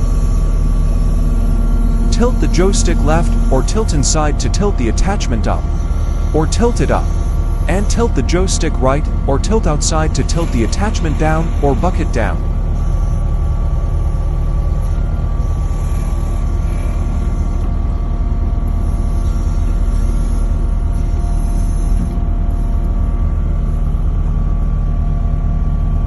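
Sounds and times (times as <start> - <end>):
diesel engine droning: 0.0 - 25.6.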